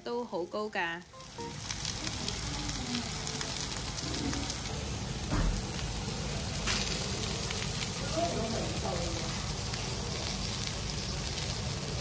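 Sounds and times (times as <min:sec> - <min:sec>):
meat sizzling on a grill pan: 0:00.4 - 0:12.0.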